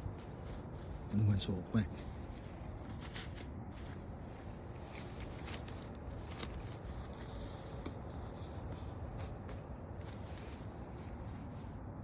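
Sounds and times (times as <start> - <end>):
soft rustling and handling noise: 0.0 - 12.0.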